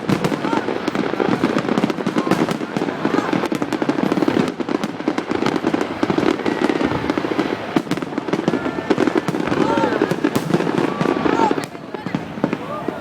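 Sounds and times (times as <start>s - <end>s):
firework whistle: 0.0s - 13.0s
fireworks bangs and crackles: 0.0s - 13.0s.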